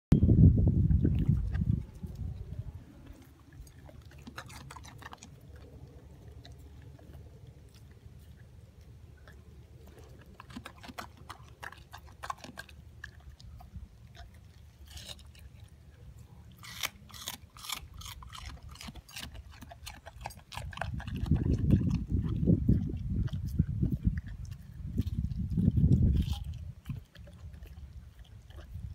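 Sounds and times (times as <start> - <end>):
dog crunching watermelon rind: 0.8 - 28.9.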